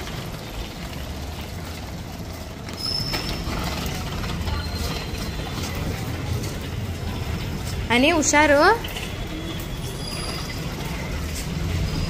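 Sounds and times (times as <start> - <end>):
bicycle freewheel ticking: 0.0 - 12.0
bicycle parts rattling: 0.0 - 12.0.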